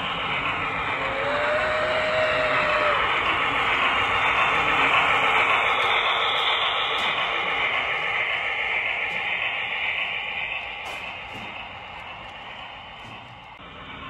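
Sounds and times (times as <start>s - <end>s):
model train wheels rumbling on rails: 0.0s - 14.0s.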